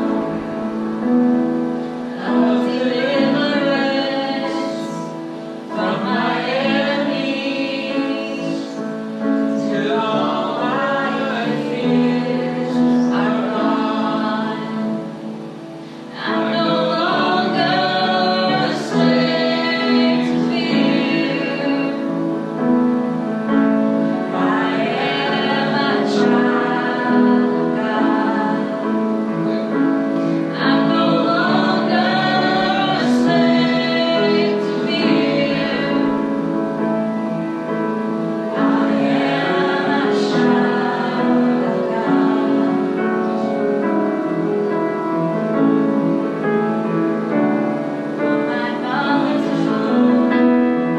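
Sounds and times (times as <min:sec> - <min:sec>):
group singing along: 0:02.0 - 0:22.6, 0:24.0 - 0:36.6, 0:38.3 - 0:43.8, 0:48.1 - 0:50.9
woman singing worship song: 0:02.0 - 0:22.7, 0:24.0 - 0:36.9, 0:38.4 - 0:44.0, 0:48.1 - 0:50.9.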